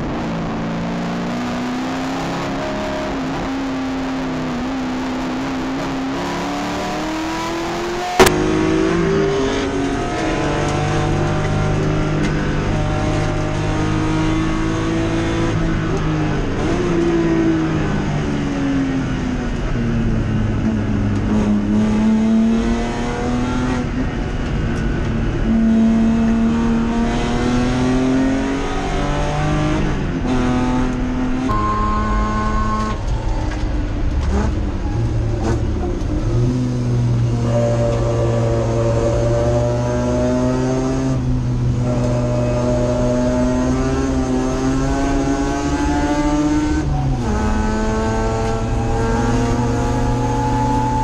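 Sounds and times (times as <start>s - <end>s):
racing car engine under load: 0.0s - 51.0s.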